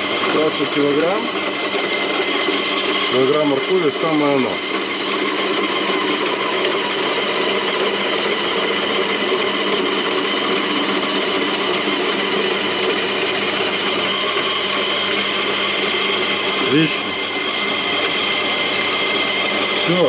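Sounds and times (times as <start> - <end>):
electric grater motor humming: 0.0 - 20.0.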